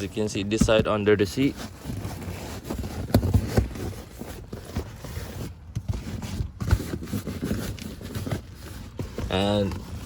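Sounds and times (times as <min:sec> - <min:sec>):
car floor mat rustling and scraping: 0:00.0 - 0:10.0.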